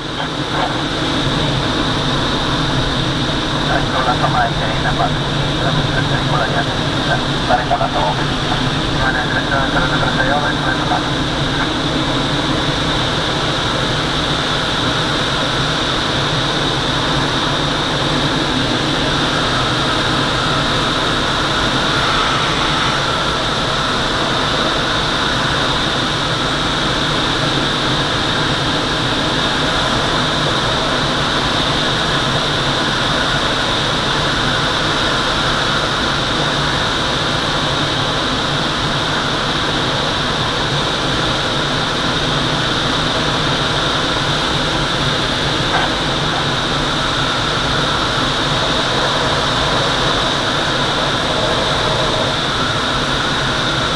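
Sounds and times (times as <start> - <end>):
plane engine droning: 0.0 - 53.9
rush of air in cockpit: 0.0 - 53.9.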